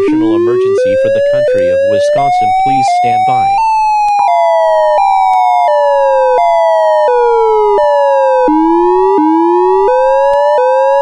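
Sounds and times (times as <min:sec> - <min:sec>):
steady high tone: 0:00.0 - 0:10.5
buzzy stepped siren tone: 0:00.0 - 0:11.0.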